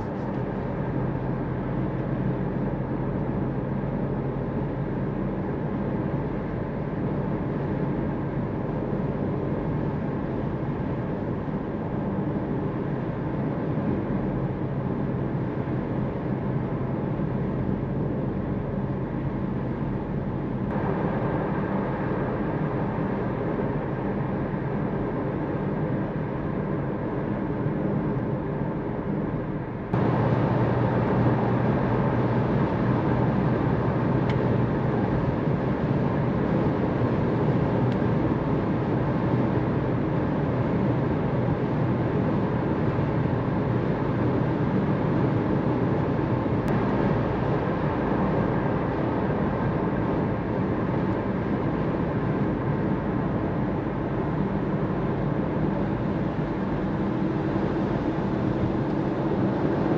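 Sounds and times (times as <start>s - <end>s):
car engine drone: 0.0s - 59.9s
road noise: 0.0s - 59.9s.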